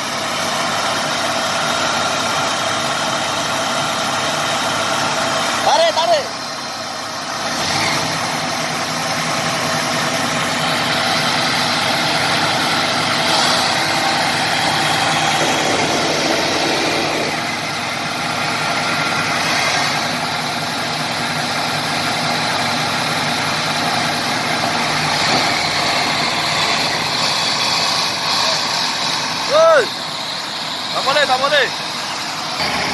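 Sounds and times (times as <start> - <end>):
bulldozer diesel engines under load: 0.0 - 32.9.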